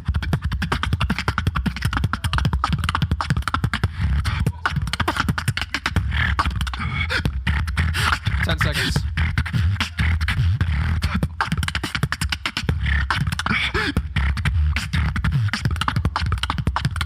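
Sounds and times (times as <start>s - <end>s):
heavy sub-bass drone: 0.0s - 17.0s
person beatboxing: 0.0s - 17.0s.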